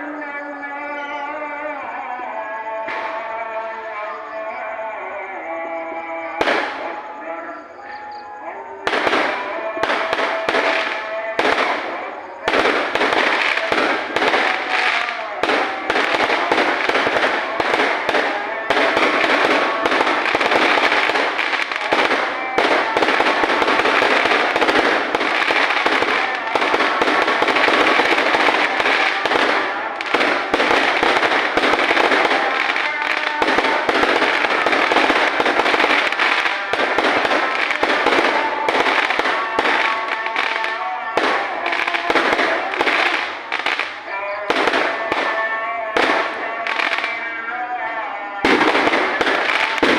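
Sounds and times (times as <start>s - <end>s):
fireworks crackling and popping: 2.8s - 3.6s, 6.4s - 7.4s, 8.8s - 49.9s.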